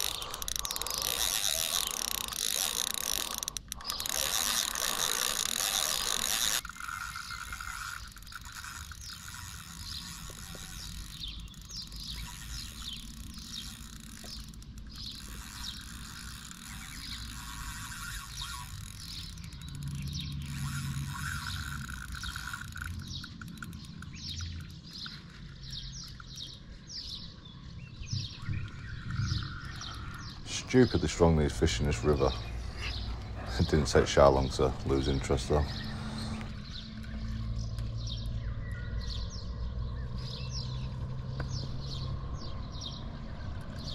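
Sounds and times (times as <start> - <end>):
fishing reel ratcheting: 0.0 - 26.7, 28.6 - 38.3.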